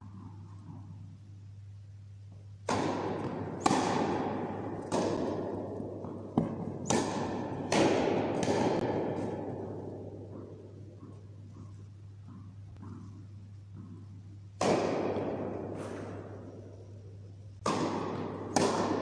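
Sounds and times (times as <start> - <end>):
tennis ball strikes and bounces: 2.6 - 16.7, 17.6 - 19.0.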